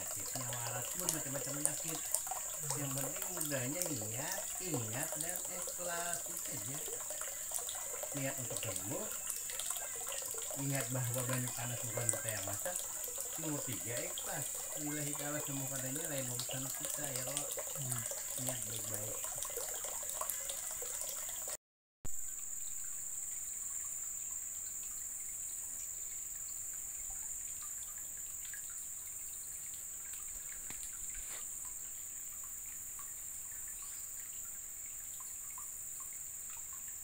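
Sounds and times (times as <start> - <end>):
water drips and splashes: 0.0 - 37.0
water trickling from a pipe: 0.0 - 37.0.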